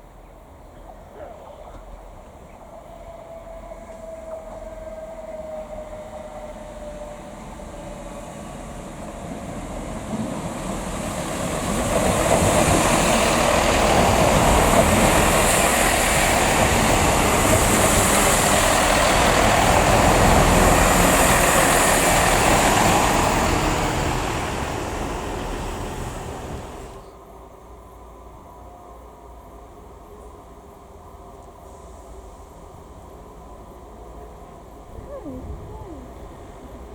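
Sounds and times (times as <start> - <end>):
train wheels rolling past: 0.0 - 34.9.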